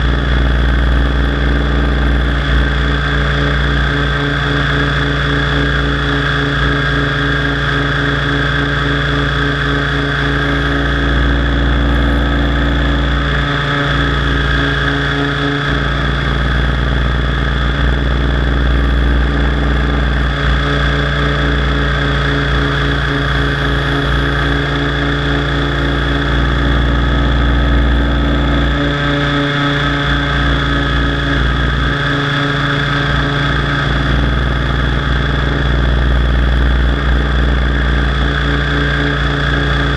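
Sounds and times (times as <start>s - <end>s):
helicopter drivetrain whine: 0.0s - 39.9s
rotor and wind rumble: 0.0s - 39.9s.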